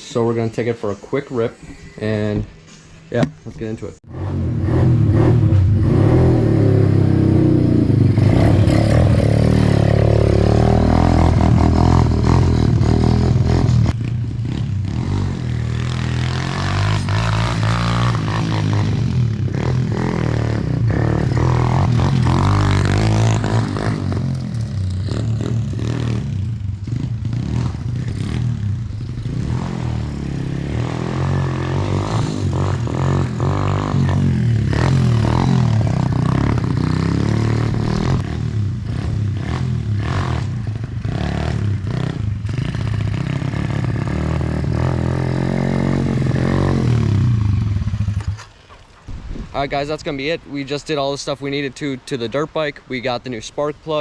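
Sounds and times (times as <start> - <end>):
dirt bike engine revving: 4.0 - 50.4.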